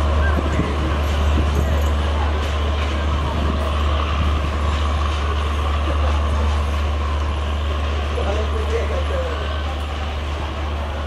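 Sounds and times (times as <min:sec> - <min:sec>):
train droning and rumbling: 0:00.0 - 0:11.0.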